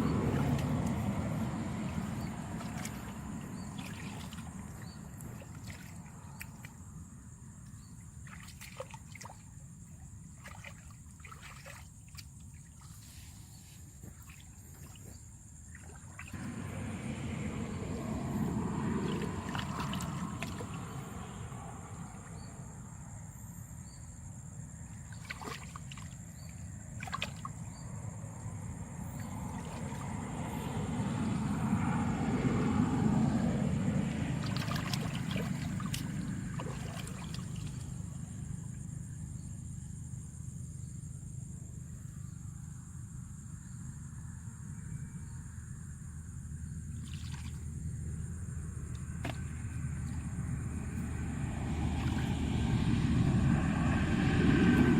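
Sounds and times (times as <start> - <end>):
water sloshing and trickling: 0.0 - 39.8, 46.6 - 54.9.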